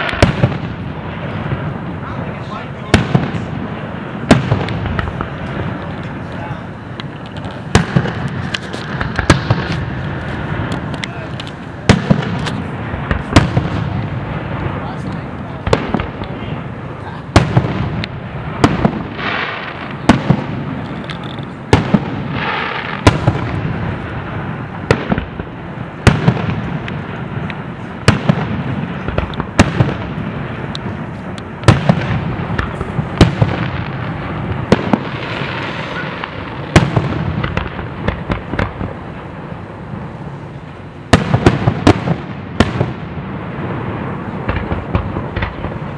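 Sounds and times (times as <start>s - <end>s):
fireworks booming: 0.0s - 45.9s
fireworks crackle: 0.0s - 45.9s.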